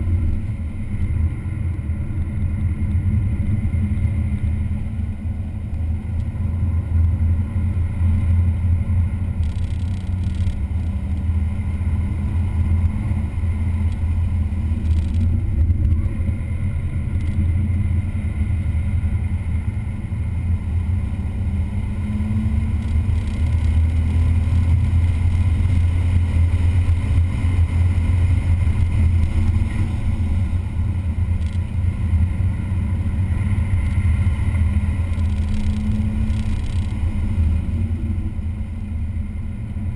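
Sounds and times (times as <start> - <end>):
car engine at speed: 0.0 - 39.9.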